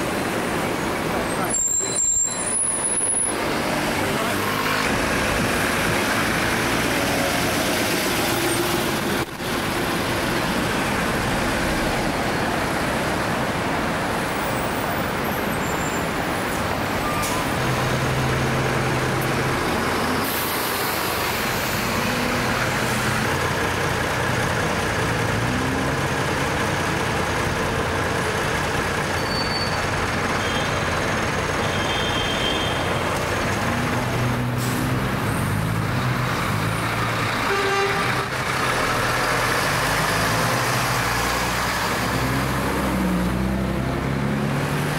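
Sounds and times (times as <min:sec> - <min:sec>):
bus diesel engines: 0:00.0 - 0:44.9
busy street traffic: 0:00.0 - 0:44.9.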